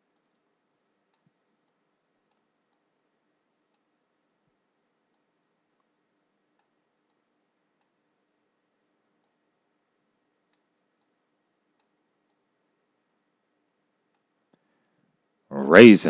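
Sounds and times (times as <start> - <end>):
faint irregular clicks: 0.0 - 15.4
faint steady hum: 0.0 - 16.0.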